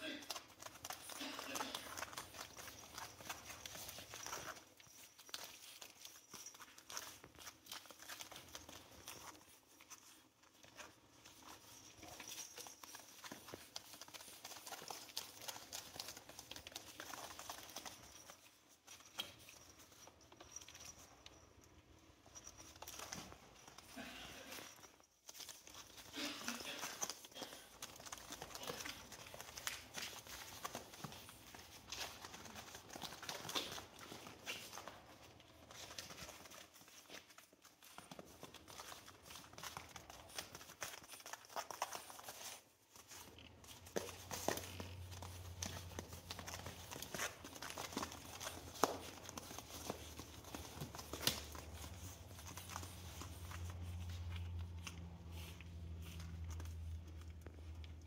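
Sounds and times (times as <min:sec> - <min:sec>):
puppy paws scuffling: 0:00.0 - 0:58.0.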